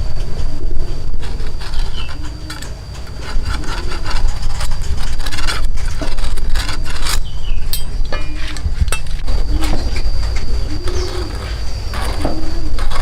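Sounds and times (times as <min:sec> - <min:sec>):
hand tool rasping wood: 0:01.2 - 0:13.0.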